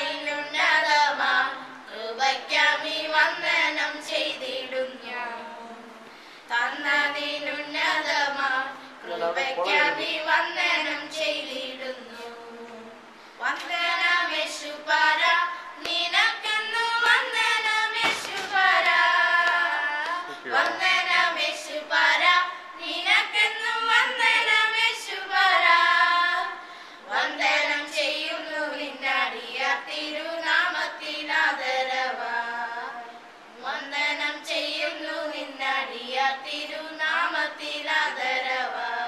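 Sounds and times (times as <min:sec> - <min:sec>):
woman and girls singing: 0:00.0 - 0:39.0.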